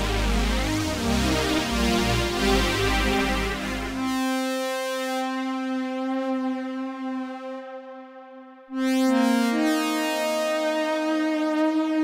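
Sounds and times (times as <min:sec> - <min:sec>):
synthesizer notes and chords: 0:00.0 - 0:12.0.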